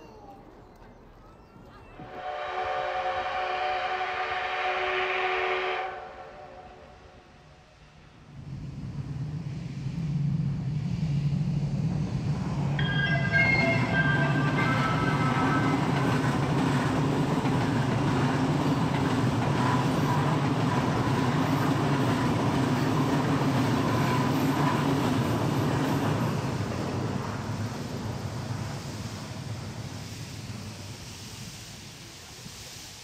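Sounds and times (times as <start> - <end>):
train rumbling by: 0.0 - 33.0.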